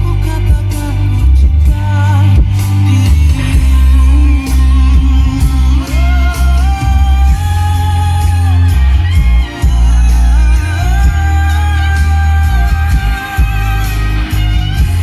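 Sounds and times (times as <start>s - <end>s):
heavy bass music from car speakers: 0.0s - 15.0s
sung or guitar melody: 0.0s - 15.0s.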